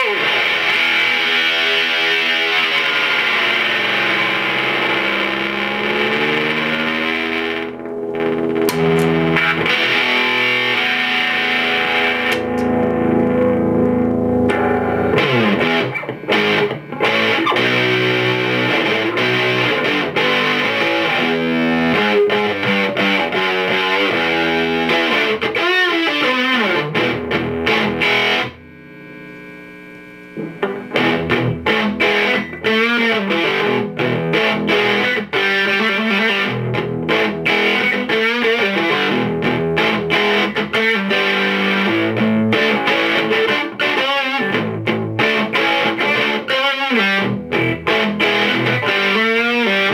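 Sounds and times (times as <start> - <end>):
distorted electric guitar: 0.0 - 49.9.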